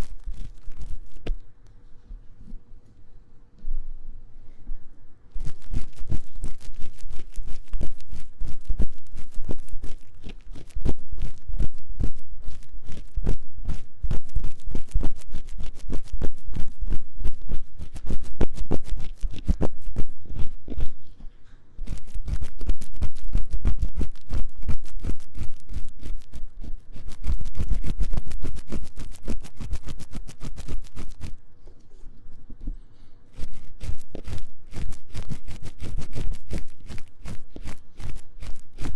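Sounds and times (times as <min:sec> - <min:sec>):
tool scraping microphone ear: 0:00.0 - 0:01.5, 0:05.4 - 0:38.9.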